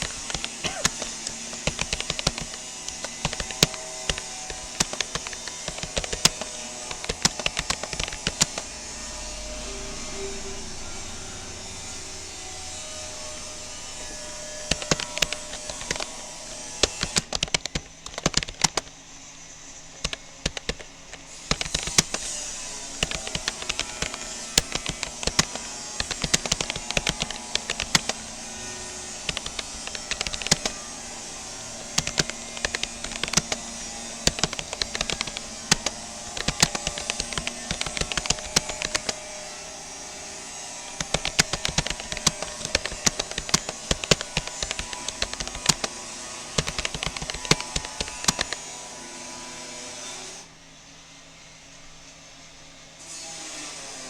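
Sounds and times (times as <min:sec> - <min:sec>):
computer keyboard typing: 0:00.0 - 0:09.2, 0:13.2 - 0:19.0, 0:19.8 - 0:40.1, 0:40.7 - 0:48.8.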